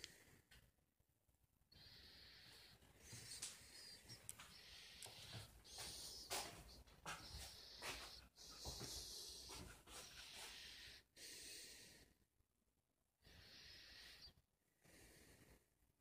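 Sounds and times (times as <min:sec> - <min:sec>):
soft breathing: 0:01.7 - 0:12.2, 0:13.2 - 0:15.8.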